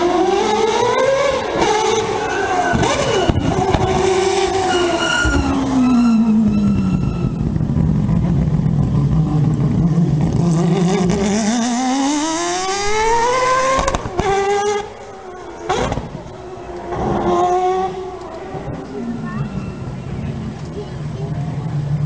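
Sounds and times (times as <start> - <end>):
rotary engine accelerating: 0.0 - 22.0.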